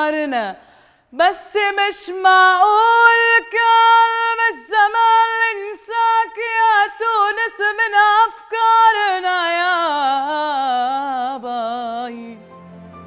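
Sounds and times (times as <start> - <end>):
woman singing unaccompanied: 0.0 - 12.4.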